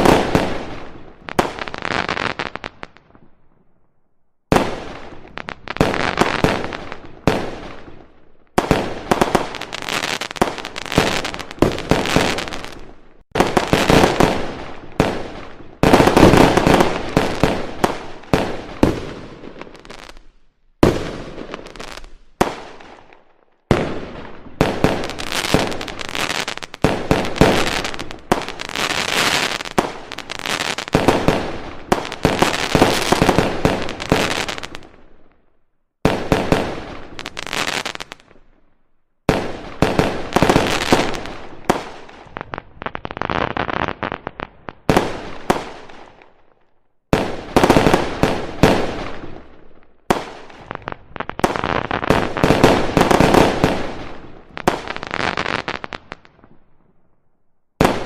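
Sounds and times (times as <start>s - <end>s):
fireworks booming and crackling: 0.0s - 3.4s, 4.5s - 35.4s, 36.0s - 57.0s, 57.7s - 58.0s.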